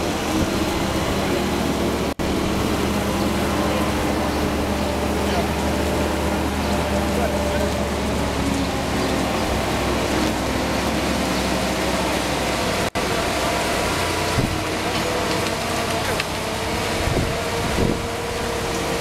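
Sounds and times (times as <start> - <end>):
travel lift engine running: 0.0 - 19.0.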